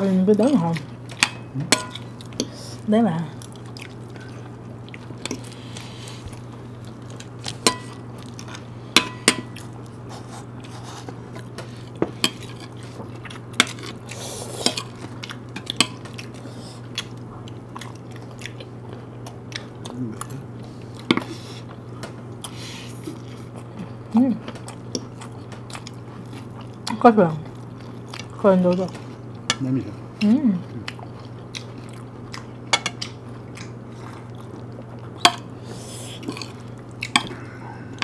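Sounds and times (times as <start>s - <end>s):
steady low hum: 0.0s - 38.0s
chewing: 3.4s - 8.7s, 9.5s - 38.0s.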